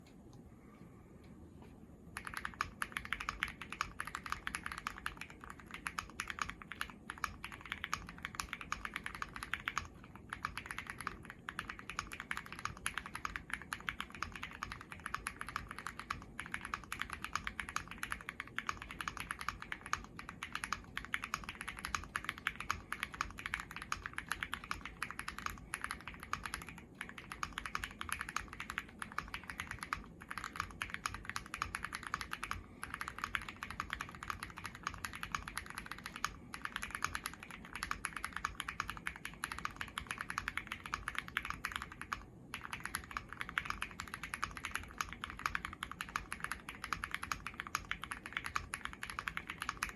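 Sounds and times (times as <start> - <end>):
fast mechanical keyboard typing: 2.1 - 49.9.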